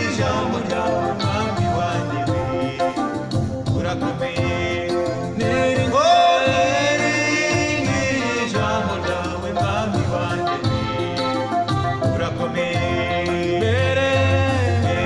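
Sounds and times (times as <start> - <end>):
electronic keyboard: 0.0 - 15.0
men singing: 0.0 - 15.0.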